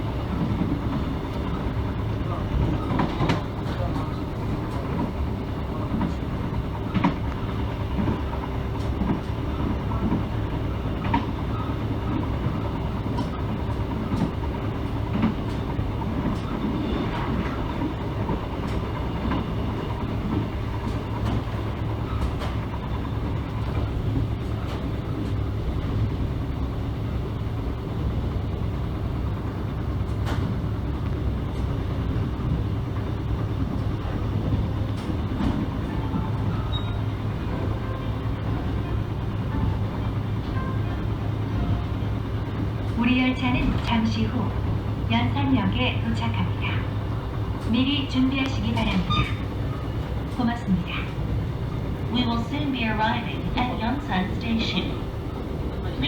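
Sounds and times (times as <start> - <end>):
train rumbling: 0.0 - 56.0
wheels clicking over rails: 0.3 - 56.0.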